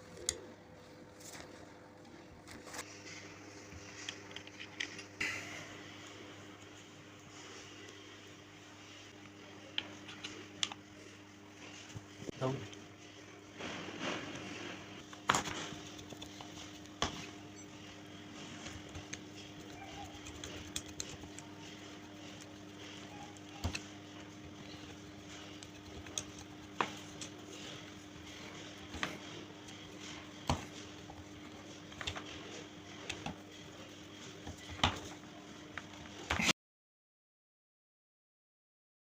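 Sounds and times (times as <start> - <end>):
steady low hum: 0.0 - 36.5.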